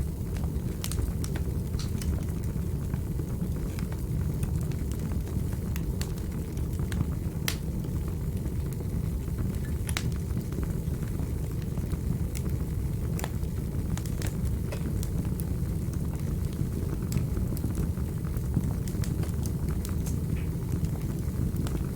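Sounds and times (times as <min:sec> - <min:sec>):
wood fire crackling in fireplace: 0:00.0 - 0:21.9.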